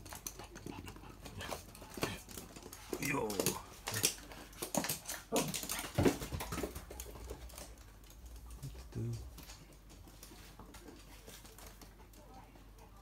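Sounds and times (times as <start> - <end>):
dog claws clicking on hard floor: 0.0 - 12.3.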